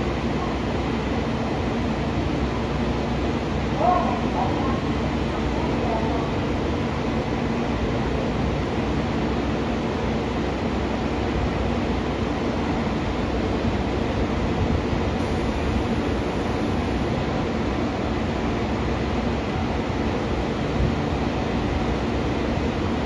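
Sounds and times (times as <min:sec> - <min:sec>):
electric train humming: 0:00.0 - 0:23.0.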